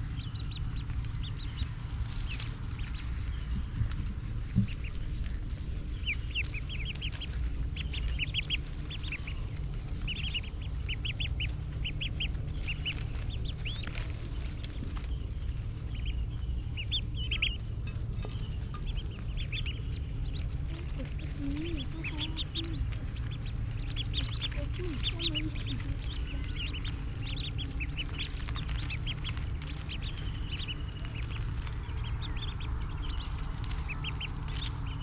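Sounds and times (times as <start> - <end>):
ducklings peeping: 0.0 - 35.0
steady low rumble: 0.0 - 35.0.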